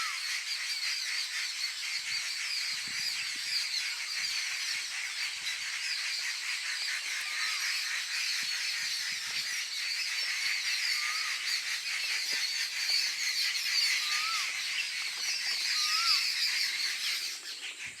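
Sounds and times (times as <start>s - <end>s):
birds harsh alarm chatter: 0.0s - 18.0s.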